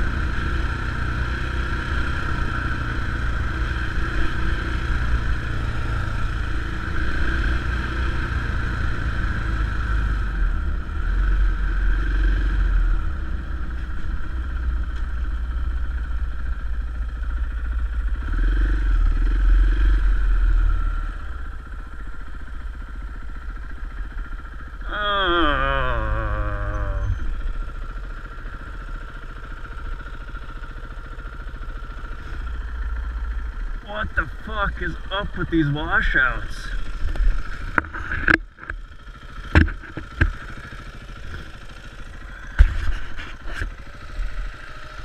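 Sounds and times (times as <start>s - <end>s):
clatter from rough road: 0.0s - 24.8s, 27.1s - 45.0s
off-road vehicle engine: 0.0s - 45.0s.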